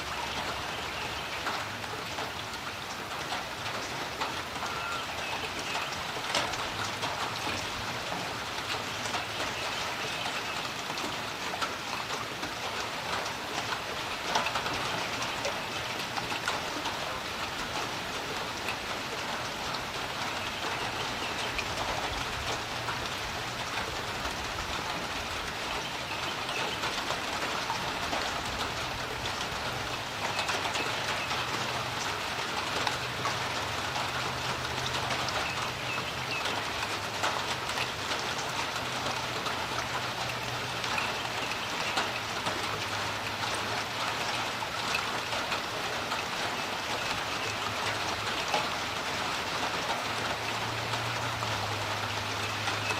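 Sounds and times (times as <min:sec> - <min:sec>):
rain falling on a creek: 0:00.0 - 0:52.9.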